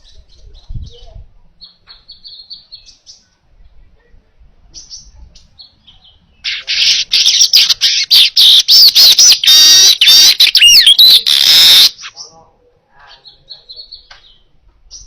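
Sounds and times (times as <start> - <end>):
bird chirps and trilling song: 0.0 - 3.3, 4.7 - 12.4, 13.1 - 15.0.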